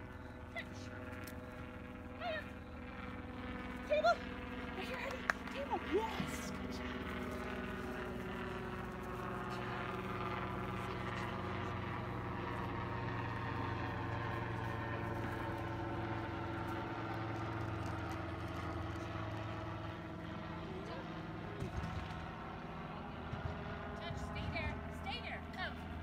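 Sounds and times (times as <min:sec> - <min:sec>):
motor drone: 0:00.0 - 0:26.0.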